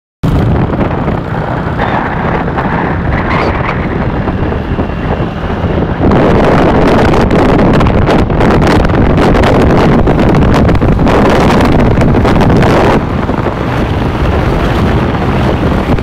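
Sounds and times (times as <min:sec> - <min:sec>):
motorcycle engine running: 0:00.2 - 0:16.0
wind noise on microphone: 0:00.2 - 0:16.0.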